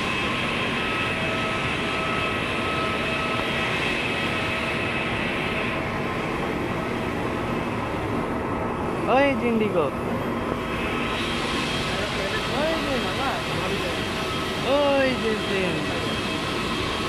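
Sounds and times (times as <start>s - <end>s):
jet engines roaring and whining: 0.0s - 17.0s.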